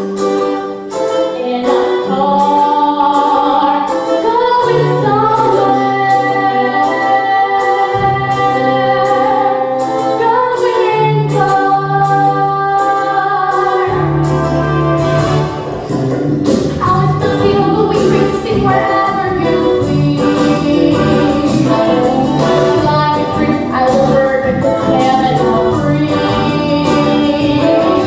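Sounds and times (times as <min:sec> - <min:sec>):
musical accompaniment with beat: 0:00.0 - 0:28.0
girl singing: 0:01.2 - 0:15.0, 0:16.8 - 0:28.0.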